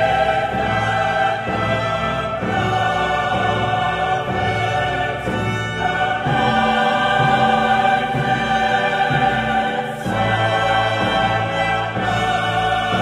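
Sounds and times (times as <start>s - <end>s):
slow choral and orchestral music: 0.0s - 13.0s.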